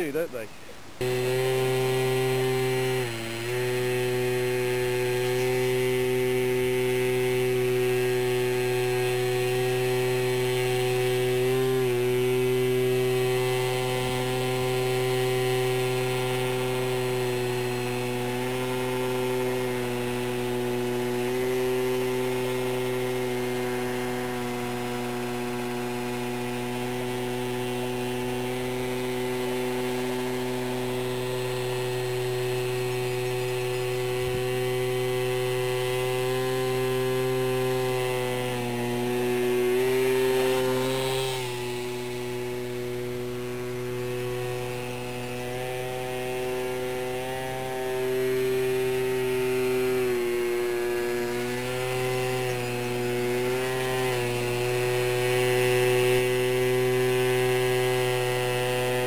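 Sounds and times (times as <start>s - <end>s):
electric motor and propeller whine: 0.0s - 59.0s.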